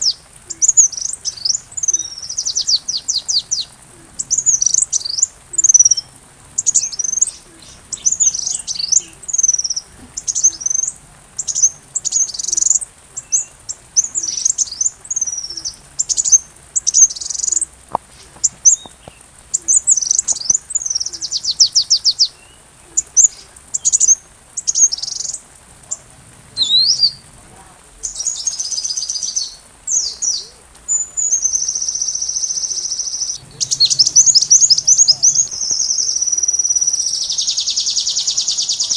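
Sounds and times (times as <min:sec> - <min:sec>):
bird rattling trill: 0:00.0 - 0:22.4, 0:23.1 - 0:29.4, 0:31.3 - 0:37.2
bird chirping: 0:00.0 - 0:38.9.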